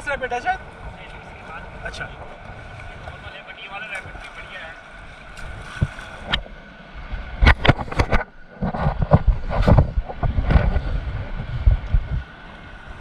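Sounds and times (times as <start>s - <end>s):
rushing white water: 0.0s - 13.0s
water splashing over boat: 0.0s - 13.0s
wind buffeting microphone: 0.0s - 13.0s.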